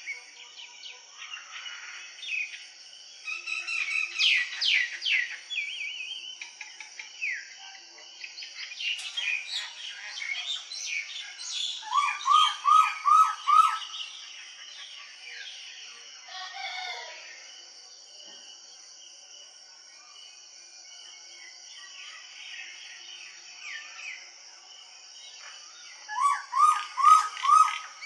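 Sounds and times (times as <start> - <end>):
songbirds chirping and warbling: 0.0 - 28.0.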